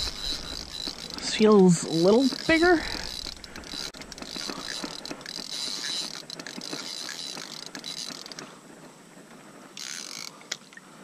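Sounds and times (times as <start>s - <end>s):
fishing reel clicking whir: 0.0s - 8.9s, 9.7s - 10.7s.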